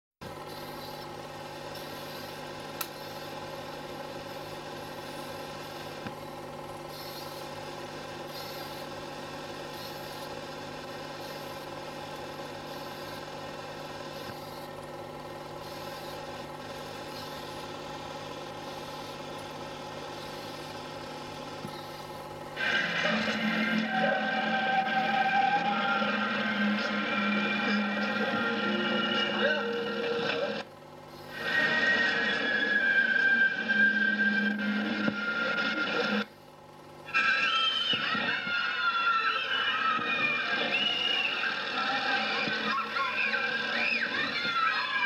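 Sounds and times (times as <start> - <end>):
film projector humming: 0.2 - 45.0.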